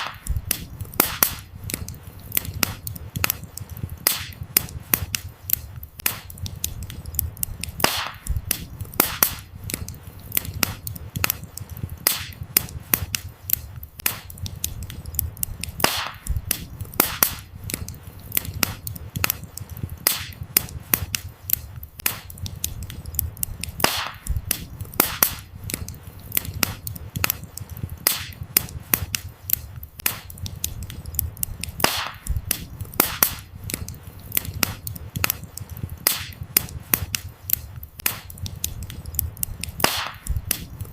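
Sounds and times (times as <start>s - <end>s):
wood fire snaps and pops: 0.0s - 40.9s.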